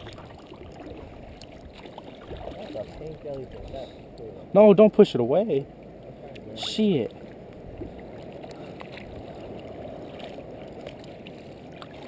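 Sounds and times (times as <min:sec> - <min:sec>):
small splashes and drips: 0:00.0 - 0:04.3, 0:05.8 - 0:12.0
water lapping against kayak: 0:00.0 - 0:12.0.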